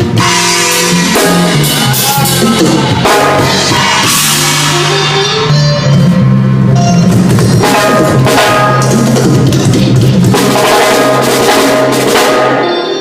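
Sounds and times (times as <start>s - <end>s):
drum kit playing: 0.0s - 13.0s
sustained bass notes: 0.0s - 13.0s.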